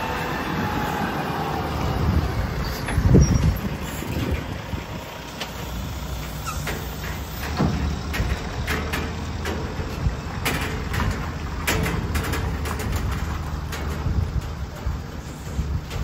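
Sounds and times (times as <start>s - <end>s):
lorry engine rumbling: 0.0s - 16.0s.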